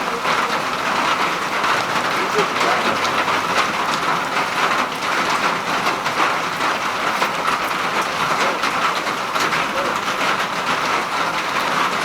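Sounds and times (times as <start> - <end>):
heavy rain falling: 0.0 - 12.0
raindrops ticking on hard surfaces: 0.0 - 12.0.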